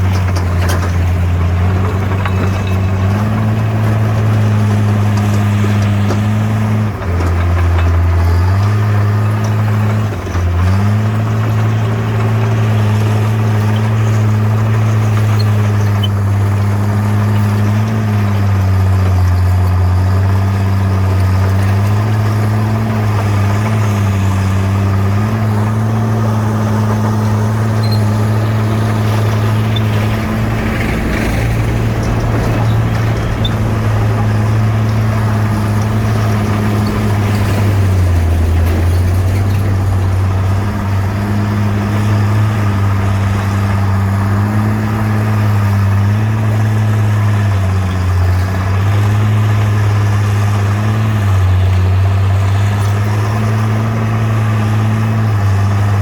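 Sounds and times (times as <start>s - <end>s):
diesel bulldozer engine running: 0.0s - 56.0s.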